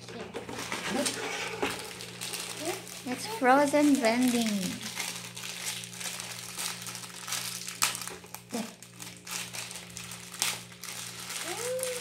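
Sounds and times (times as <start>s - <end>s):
plastic bag crinkling: 0.5s - 12.0s.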